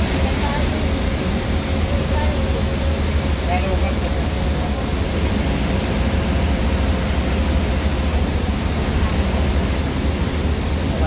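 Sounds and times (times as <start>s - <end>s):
bus engine rumble: 0.0s - 11.0s
tyres hissing on wet road: 0.0s - 11.0s.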